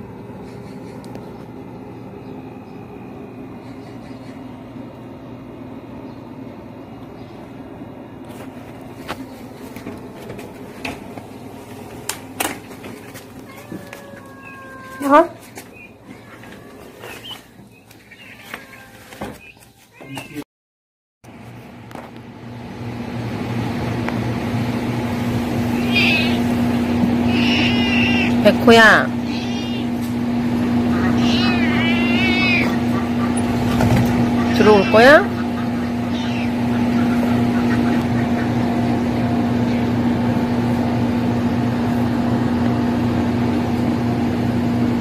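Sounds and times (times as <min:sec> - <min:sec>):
motor hum: 0:00.0 - 0:20.4, 0:21.3 - 0:45.0.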